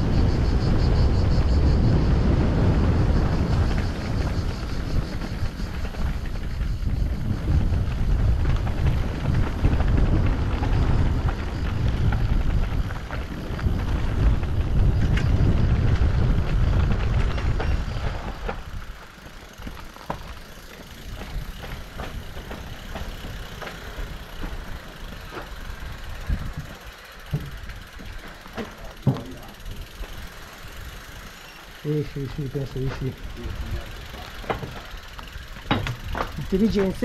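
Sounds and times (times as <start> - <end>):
wind rumble on microphone: 0.0 - 20.4, 21.0 - 31.1
bike clicks and rattles: 0.0 - 37.0
bike tyre noise: 0.0 - 37.0.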